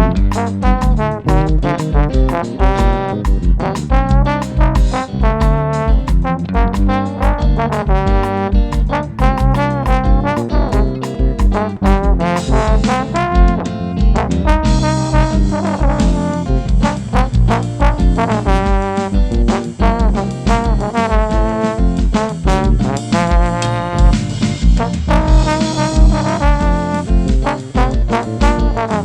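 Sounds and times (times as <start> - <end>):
bass line: 0.0 - 29.0
drums: 0.0 - 29.0
trombone melody with bending notes: 0.0 - 29.0.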